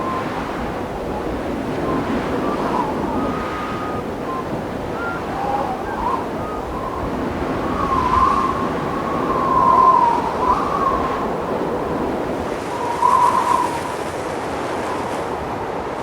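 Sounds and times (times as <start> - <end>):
wind howling and whistling: 0.0 - 16.0.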